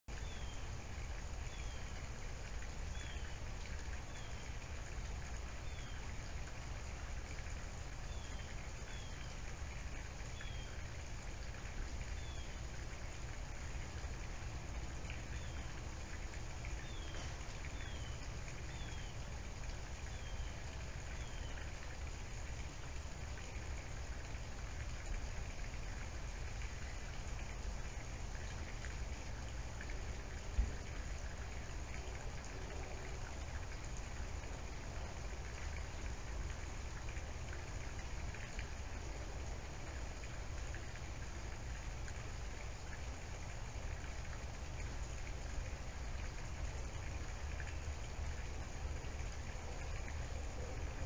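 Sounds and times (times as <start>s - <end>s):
steady outdoor hiss: 0.1s - 51.0s.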